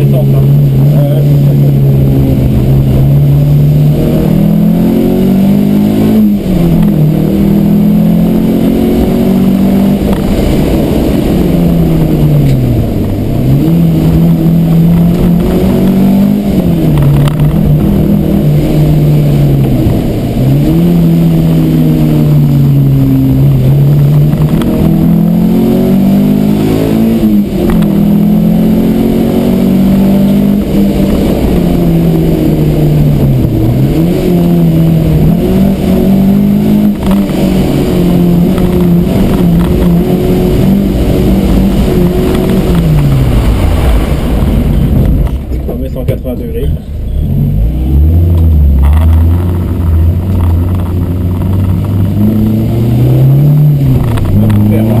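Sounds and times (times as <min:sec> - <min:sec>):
car engine revving from inside cabin: 0:00.0 - 0:45.3, 0:47.1 - 0:55.0.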